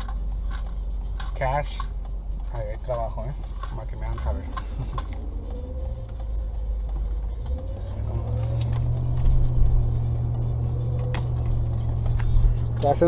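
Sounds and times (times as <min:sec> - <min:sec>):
road and engine rumble inside car: 0:00.0 - 0:13.0.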